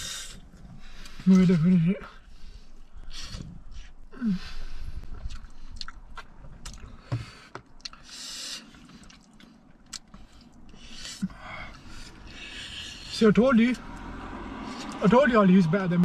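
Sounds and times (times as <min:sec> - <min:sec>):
close chewing and wet mouth sounds: 0:00.0 - 0:13.1, 0:13.8 - 0:15.1.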